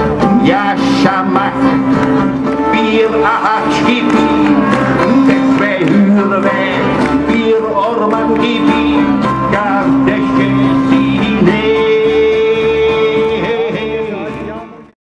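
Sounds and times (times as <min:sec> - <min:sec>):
live band music with singing: 0:00.0 - 0:14.9.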